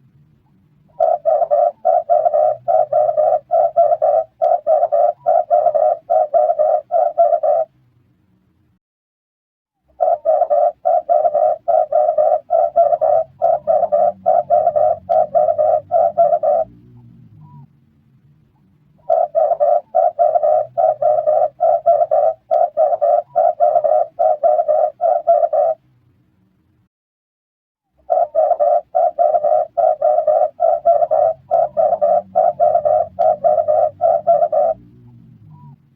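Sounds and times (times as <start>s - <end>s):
dove cooing: 0.9s - 7.7s, 9.9s - 17.7s, 19.0s - 25.8s, 28.0s - 35.8s.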